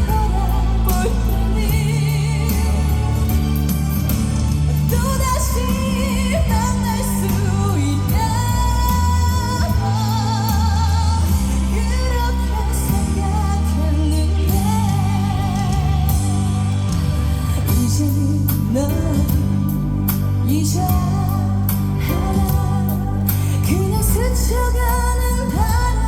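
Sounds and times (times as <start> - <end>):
amplified backing music: 0.0 - 26.0
woman singing with vibrato: 0.0 - 26.0.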